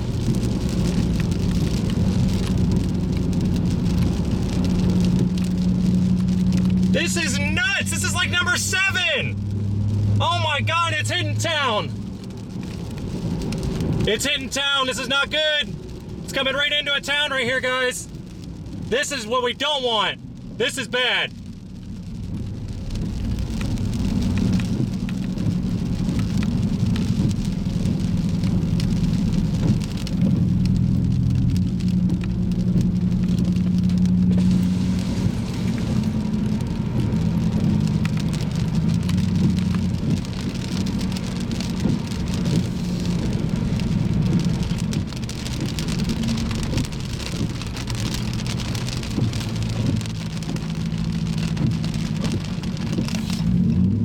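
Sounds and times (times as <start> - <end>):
car engine drone: 0.0 - 54.0
rain falling on a car: 0.0 - 54.0
road noise: 0.0 - 54.0.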